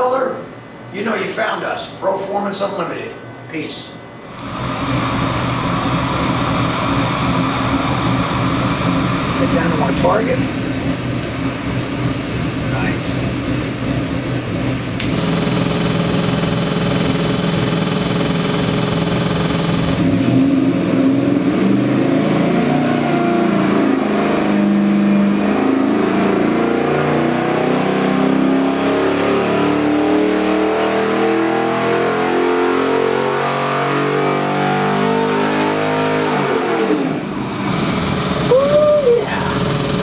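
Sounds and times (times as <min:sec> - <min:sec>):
engine revving with high whine: 0:04.2 - 0:40.0.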